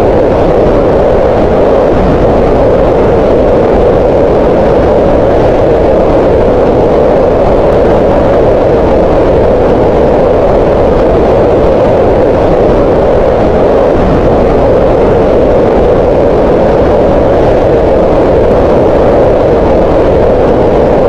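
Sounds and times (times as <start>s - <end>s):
mid-pitched green noise: 0.0s - 21.0s.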